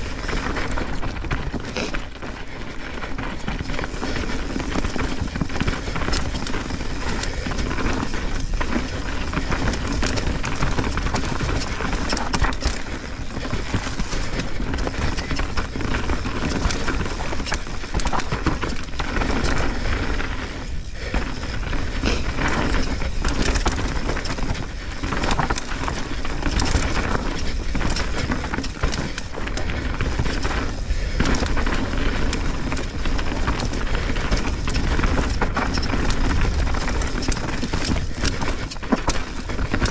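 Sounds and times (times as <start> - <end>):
bike frame and chain rattling: 0.0 - 39.9
constant rushing noise: 0.0 - 39.9
tyres rolling over dirt: 0.0 - 39.9.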